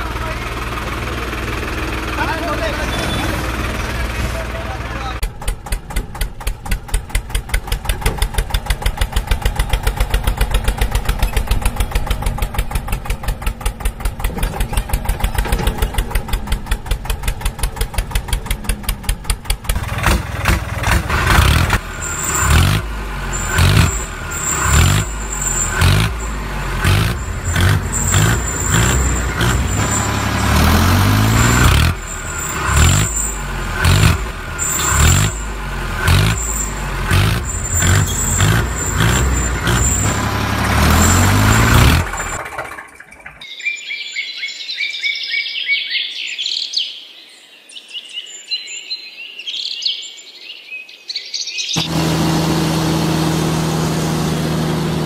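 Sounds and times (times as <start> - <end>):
tractor engine chugging and revving: 0.0 - 43.5, 51.8 - 55.0.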